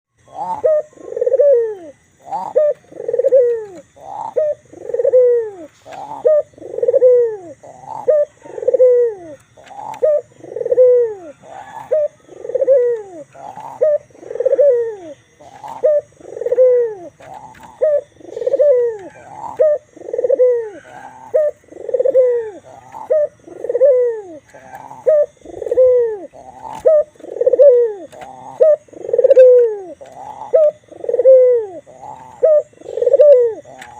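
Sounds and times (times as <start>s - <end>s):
dove cooing: 0.1s - 33.9s.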